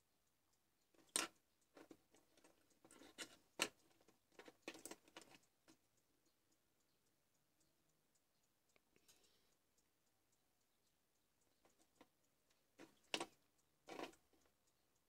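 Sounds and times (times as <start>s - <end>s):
small taps clicks and scrapes: 0.8s - 7.7s, 8.4s - 15.0s.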